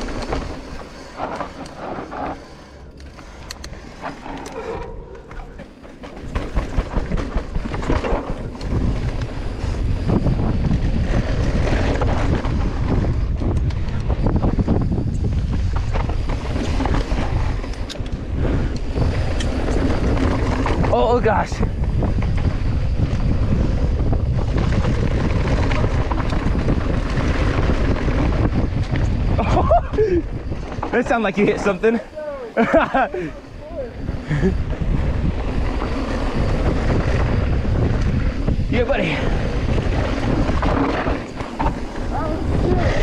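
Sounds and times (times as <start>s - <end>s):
bike rattling over bumps: 0.0s - 43.0s
wind buffeting microphone: 0.0s - 43.0s
tyres rumbling on dirt: 5.2s - 43.0s.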